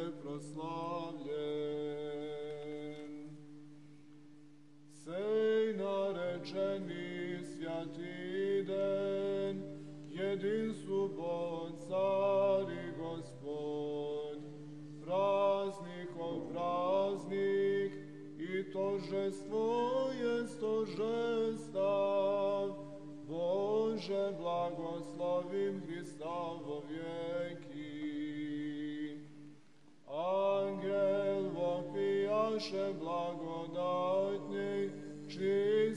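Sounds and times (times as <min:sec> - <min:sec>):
men chanting a hymn: 0:00.0 - 0:03.4, 0:05.0 - 0:29.3, 0:30.1 - 0:35.9.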